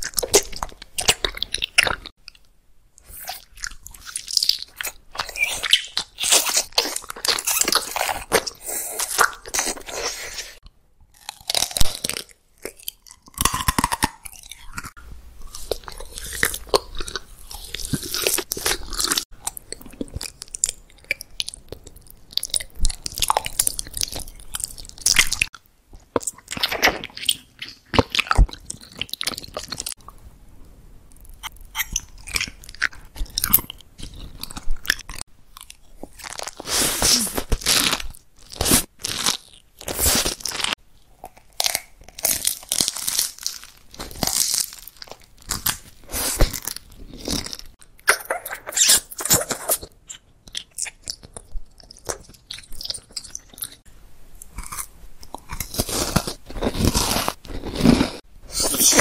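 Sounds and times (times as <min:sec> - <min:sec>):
chewing gummy candy: 0:00.0 - 0:30.2, 0:31.1 - 0:59.0.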